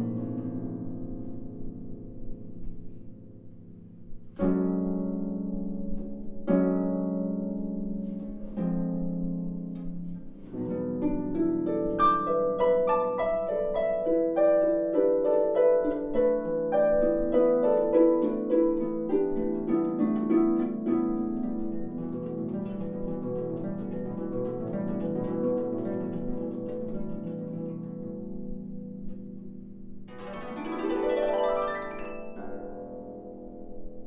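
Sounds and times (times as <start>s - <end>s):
harp chords and plucked notes: 0.0s - 34.0s.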